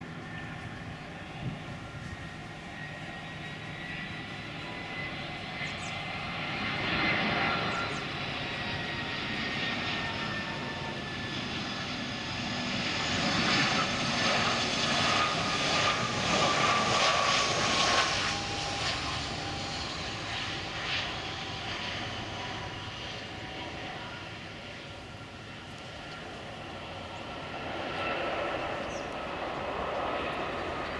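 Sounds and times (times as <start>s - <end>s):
jet engine whine and rush: 0.0s - 30.9s.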